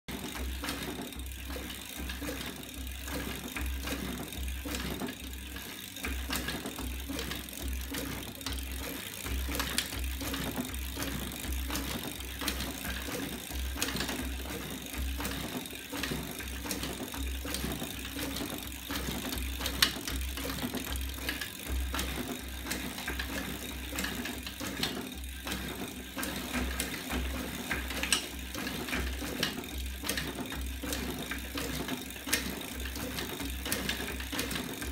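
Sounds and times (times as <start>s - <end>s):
mechanical clacking and ticking: 0.1s - 34.9s.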